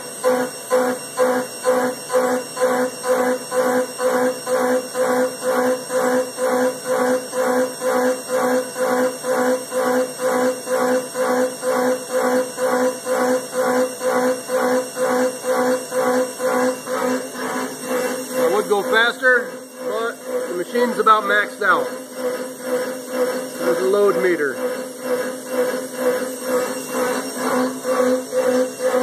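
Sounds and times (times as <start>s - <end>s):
milling machine cutting whine: 0.0s - 29.0s.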